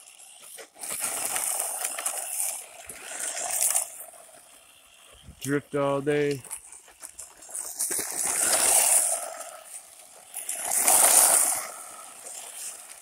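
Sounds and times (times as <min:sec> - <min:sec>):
toy truck tyres skidding: 0:00.0 - 0:13.0.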